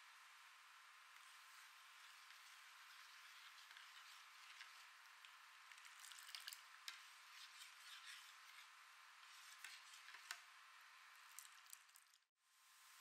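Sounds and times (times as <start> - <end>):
tea boiling and bubbling: 0.3 - 13.0.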